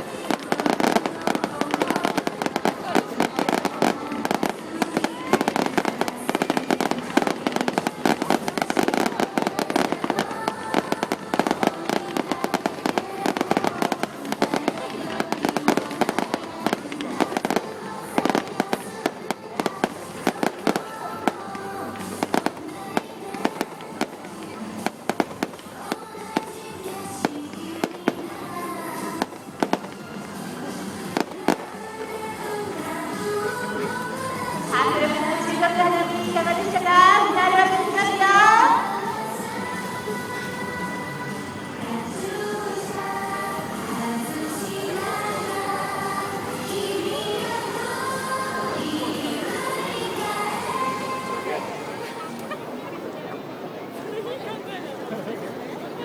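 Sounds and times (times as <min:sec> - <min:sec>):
music: 0:00.0 - 0:52.5
fireworks bangs and crackling: 0:00.0 - 0:52.6.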